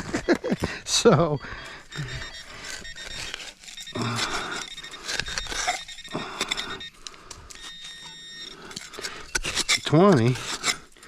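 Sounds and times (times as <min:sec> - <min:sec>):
metal detector beeping: 0:00.0 - 0:11.0
scratching and scraping: 0:01.5 - 0:11.0.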